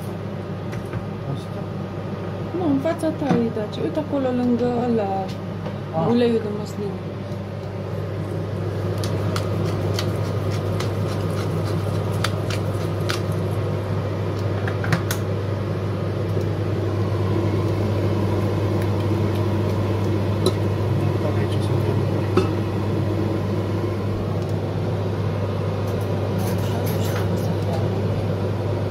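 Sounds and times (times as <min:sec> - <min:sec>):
kitchen fan humming: 0:00.0 - 0:28.9.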